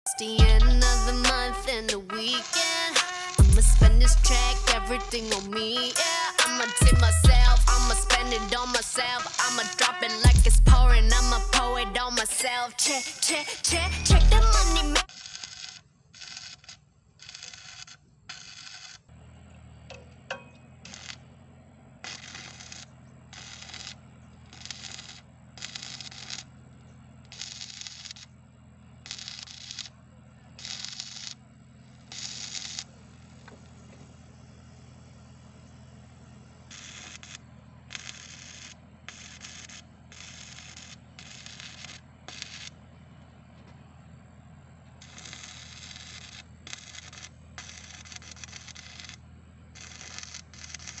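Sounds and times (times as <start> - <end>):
engine humming: 0.1 - 51.0
crackling hiss bursts: 0.8 - 10.4, 11.1 - 19.1, 20.8 - 21.3, 22.0 - 42.8, 45.0 - 51.0.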